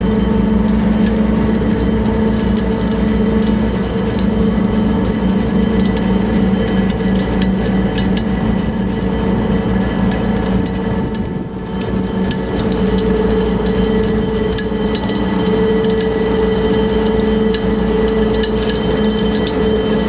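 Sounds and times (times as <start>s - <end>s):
ferry engine droning: 0.0s - 20.0s.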